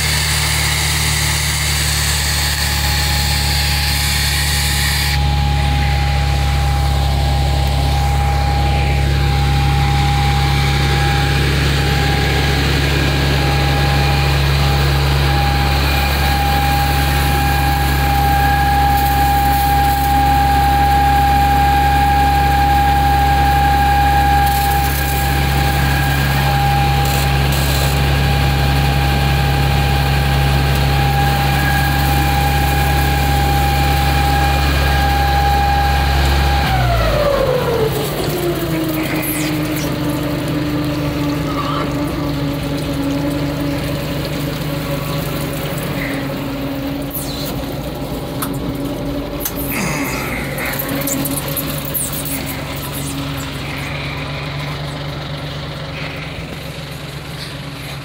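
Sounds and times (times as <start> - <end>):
fire truck engine hum: 0.0 - 58.0
pump whine: 0.0 - 58.0.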